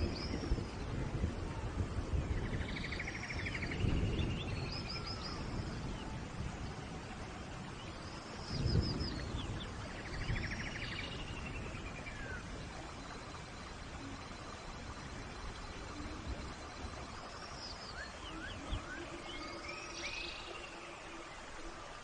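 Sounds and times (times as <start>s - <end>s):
rain hiss: 0.0s - 22.0s
songbird singing: 0.0s - 22.0s.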